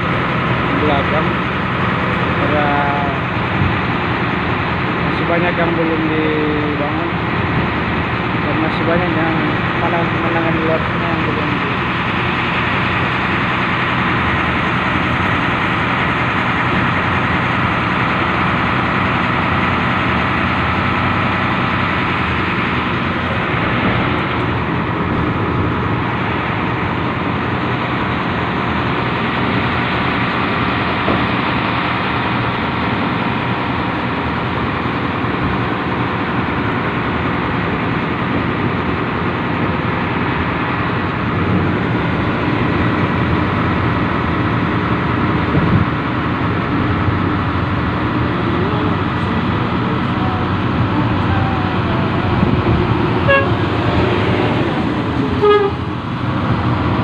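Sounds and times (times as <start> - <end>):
locomotive engine droning: 0.0 - 57.0.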